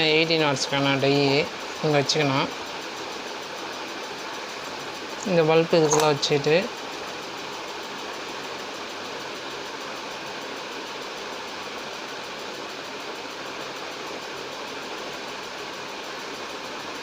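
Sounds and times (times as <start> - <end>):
steady mechanical whir: 0.0 - 17.0.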